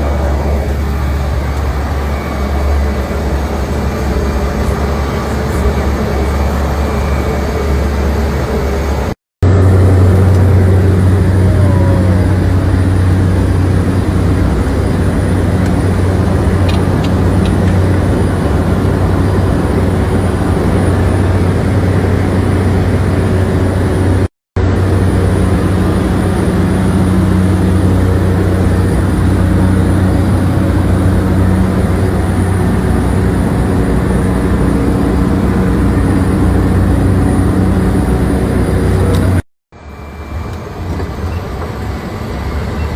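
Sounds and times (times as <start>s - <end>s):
road and wind rush: 0.0s - 42.9s
vehicle engine droning: 0.0s - 42.9s.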